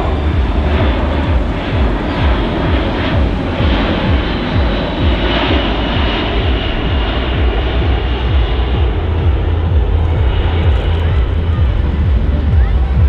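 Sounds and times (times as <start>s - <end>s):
high jet engine whine: 0.0s - 13.0s
jet engines rumbling: 0.0s - 13.0s.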